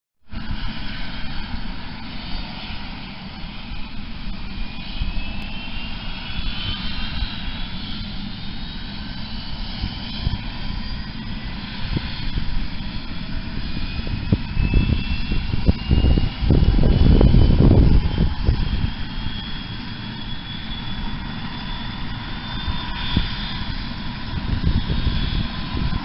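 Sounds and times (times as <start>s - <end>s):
helicopter rumble and turbine whine: 0.3s - 26.0s.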